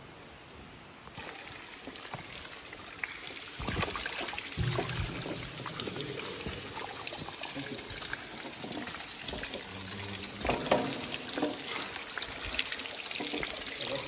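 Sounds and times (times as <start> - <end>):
water trickling over cave floor: 1.0 - 14.0.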